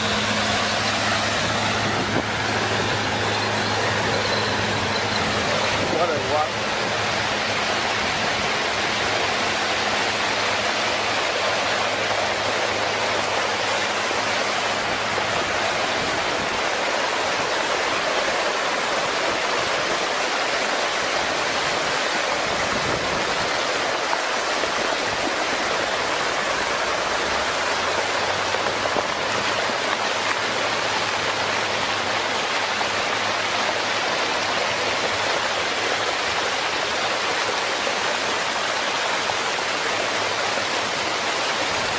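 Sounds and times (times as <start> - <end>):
flood water rushing: 0.0 - 41.9.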